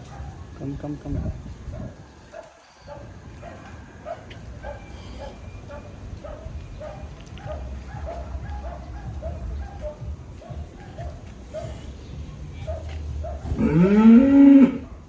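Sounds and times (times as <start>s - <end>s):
dog barking: 0.0s - 0.5s, 1.6s - 12.0s, 12.6s - 14.2s.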